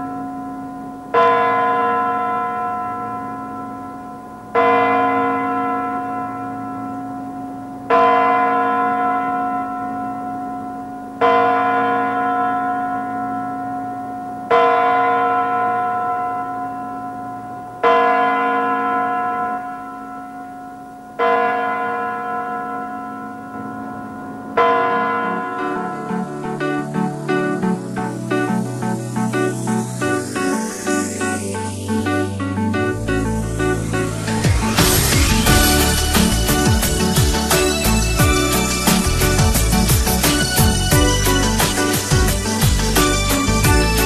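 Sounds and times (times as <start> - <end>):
bell tolling slowly: 0.0 - 44.0.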